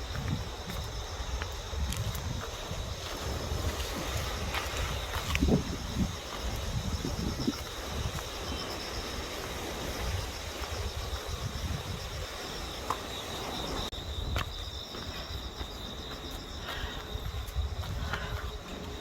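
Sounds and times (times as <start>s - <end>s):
high insect-like trill: 0.0s - 19.0s
wind rumbling on microphone: 0.0s - 19.0s.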